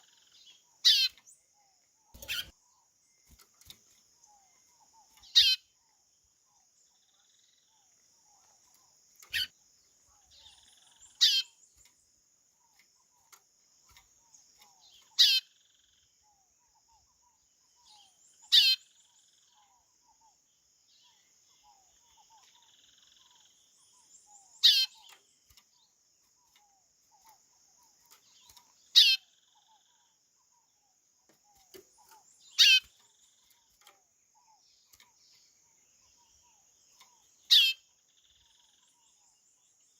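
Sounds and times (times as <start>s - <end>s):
faint insect hiss: 0.0s - 39.9s.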